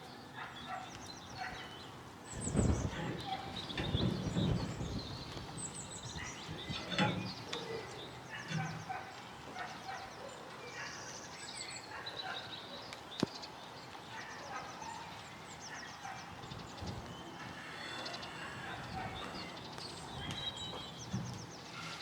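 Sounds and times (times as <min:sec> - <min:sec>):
birds chirping and calling: 0:00.4 - 0:11.1, 0:14.2 - 0:22.0.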